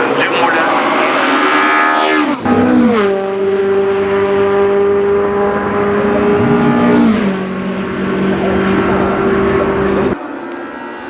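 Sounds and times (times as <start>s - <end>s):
racecar engine running hard: 0.0s - 11.0s.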